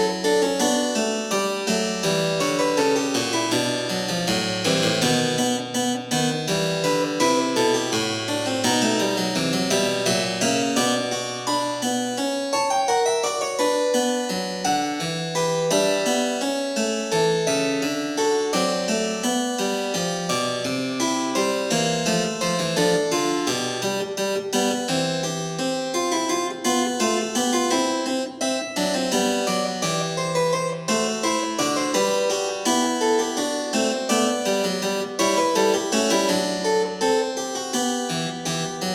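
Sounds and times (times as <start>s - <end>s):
harpsichord-like keyboard music: 0.0s - 38.9s.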